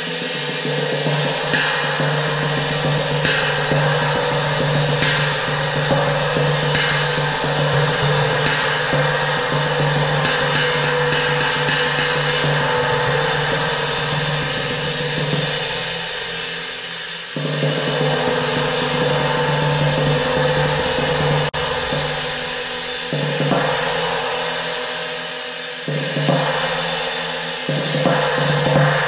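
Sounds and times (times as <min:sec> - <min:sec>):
cymbal roll with mallets: 0:00.0 - 0:29.0
low hum: 0:00.8 - 0:27.1.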